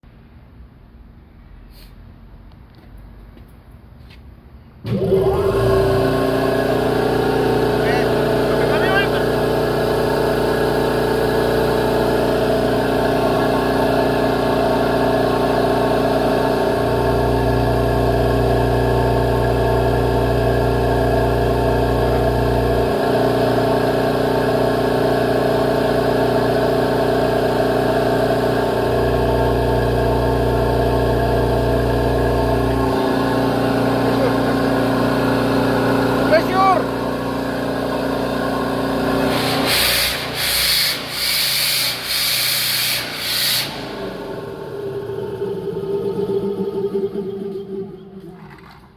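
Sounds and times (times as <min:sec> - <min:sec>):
compressor running: 0:04.8 - 0:48.6.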